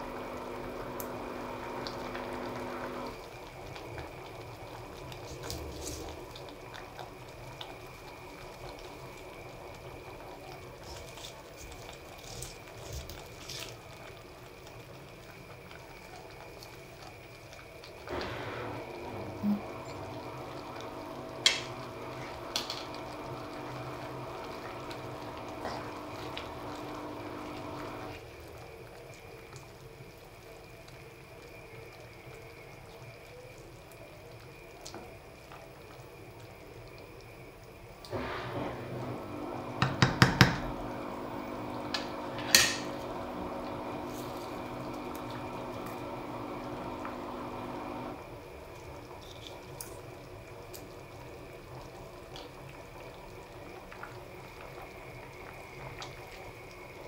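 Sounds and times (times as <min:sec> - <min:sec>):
gas stove hum: 0:00.0 - 0:29.1, 0:34.3 - 0:57.0
soup bubbling: 0:00.0 - 0:57.0.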